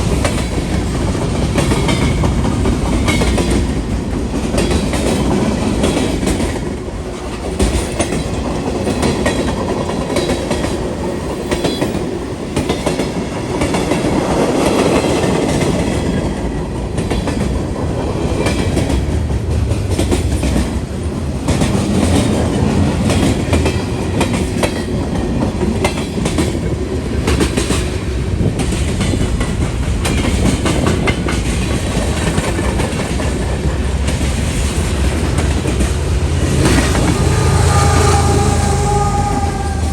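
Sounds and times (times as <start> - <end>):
train low rumble: 0.0 - 39.9
train wheels clacking: 0.0 - 39.9.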